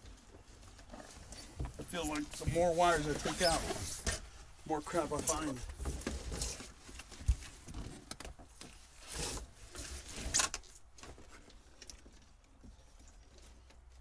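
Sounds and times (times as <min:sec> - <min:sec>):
rustling scrapes: 0:00.5 - 0:13.7.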